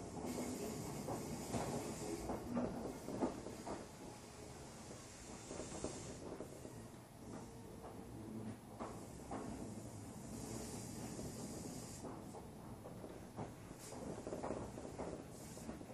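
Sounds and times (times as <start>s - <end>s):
low hiss in train car: 0.0s - 15.9s.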